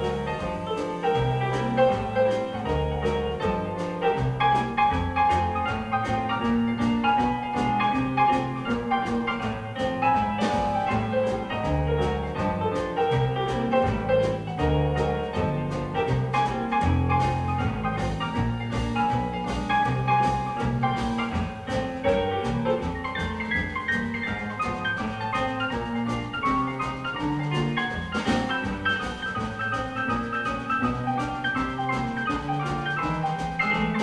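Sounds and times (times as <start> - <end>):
jazz band playing live: 0.0 - 34.0.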